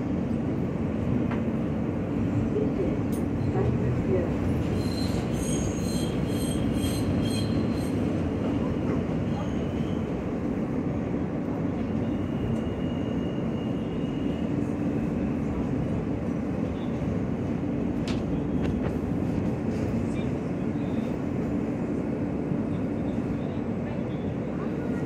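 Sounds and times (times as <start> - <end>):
subway train rumbling on track: 0.0 - 25.0.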